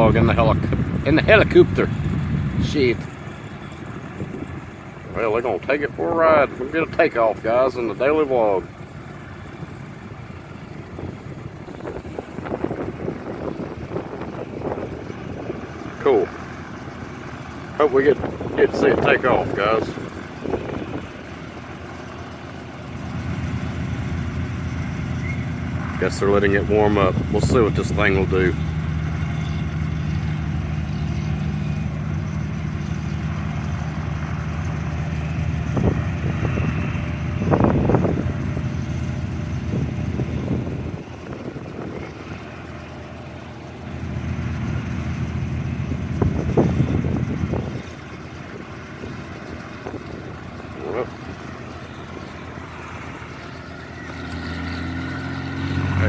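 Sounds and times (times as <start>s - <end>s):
helicopter idling: 0.0s - 56.0s.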